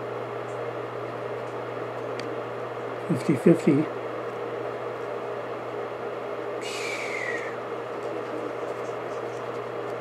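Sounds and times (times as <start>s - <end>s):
blower fan whirring: 0.0s - 10.0s.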